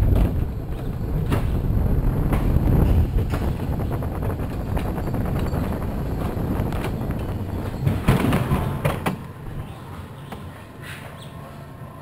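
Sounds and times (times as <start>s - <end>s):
wheels rumbling along steel rails: 0.0s - 12.0s.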